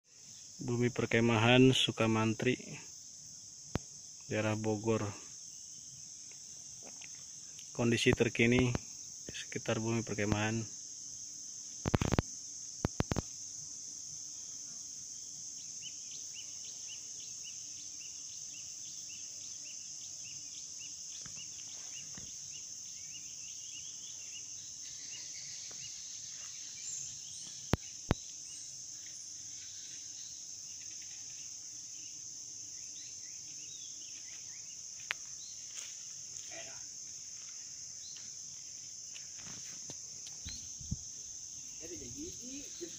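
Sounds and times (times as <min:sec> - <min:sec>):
insect chorus drone: 0:00.0 - 0:42.9.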